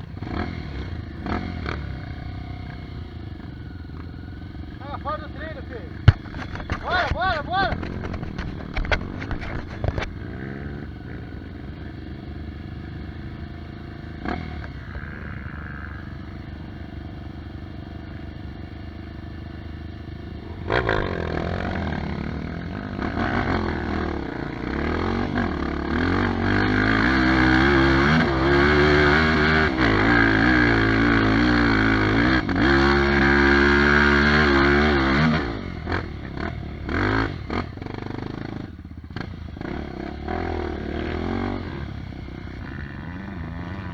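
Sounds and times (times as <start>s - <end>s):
dirt bike engine revving: 0.0s - 17.4s, 18.3s - 43.9s.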